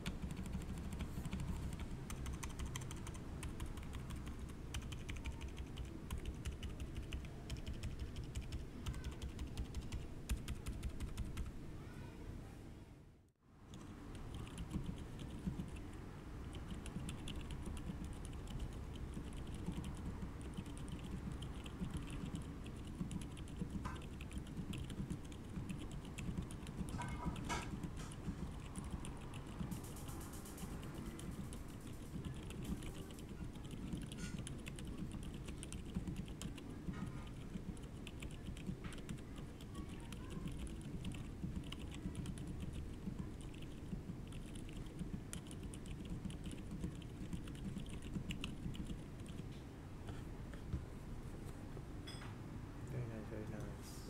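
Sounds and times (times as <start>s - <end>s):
fast typing on mechanical keyboard: 0.0s - 11.5s, 13.7s - 49.4s.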